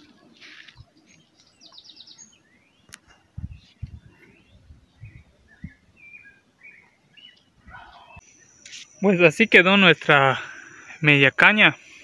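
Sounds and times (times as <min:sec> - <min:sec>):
birdsong chirps and trills: 0:00.0 - 0:12.0.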